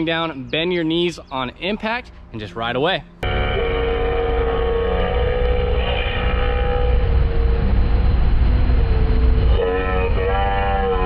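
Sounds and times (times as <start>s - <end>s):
boat engine droning: 1.9s - 11.0s.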